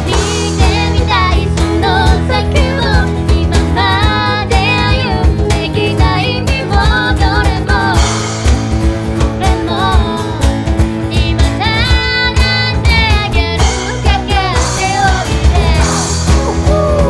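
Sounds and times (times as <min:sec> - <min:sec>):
woman singing: 0:00.0 - 0:08.5, 0:09.2 - 0:17.0
pop-rock band playing: 0:00.0 - 0:17.0.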